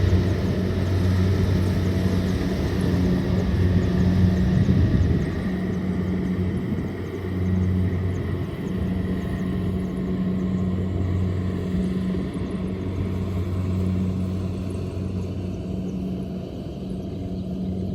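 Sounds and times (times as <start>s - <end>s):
combine harvester engine drone: 0.0s - 17.9s.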